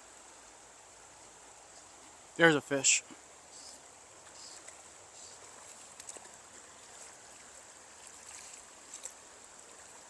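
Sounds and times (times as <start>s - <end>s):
stream running water: 0.0s - 10.0s.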